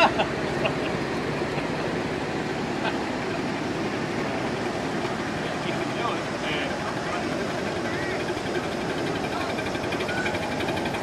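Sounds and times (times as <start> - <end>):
miniature train rumbling on track: 0.0 - 11.0.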